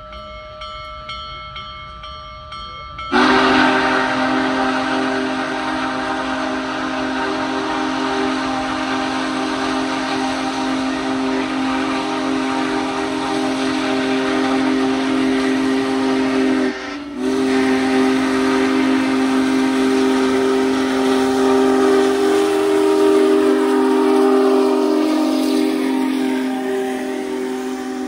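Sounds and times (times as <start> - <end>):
steady steam hiss: 3.1 - 28.0
steam locomotive whistle: 3.1 - 28.0.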